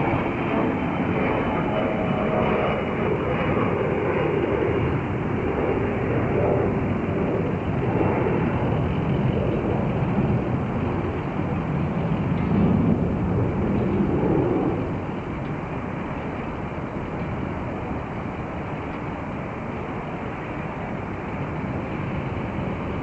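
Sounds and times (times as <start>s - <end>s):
jet engines rushing: 0.0s - 23.0s.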